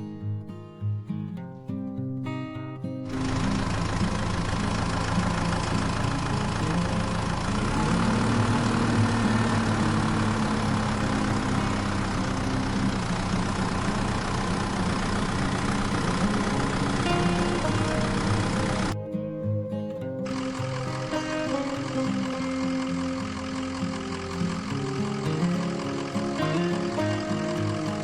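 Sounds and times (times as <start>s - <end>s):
tractor engine idling: 3.1s - 19.0s, 21.1s - 28.0s.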